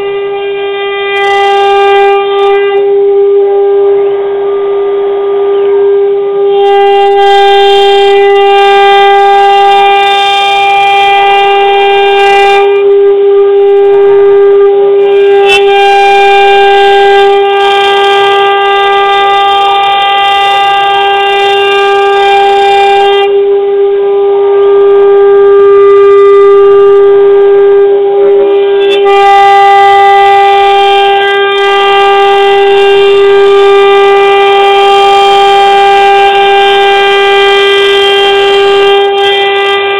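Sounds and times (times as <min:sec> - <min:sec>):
cutter milling wood: 0:00.0 - 0:39.9
router spindle whine: 0:00.0 - 0:39.9.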